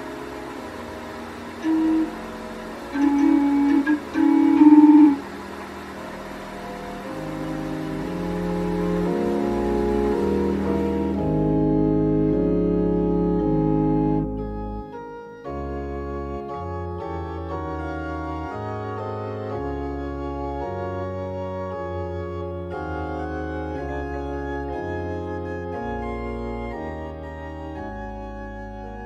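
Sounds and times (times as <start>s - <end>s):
organ playing sustained chords: 0.0s - 29.0s.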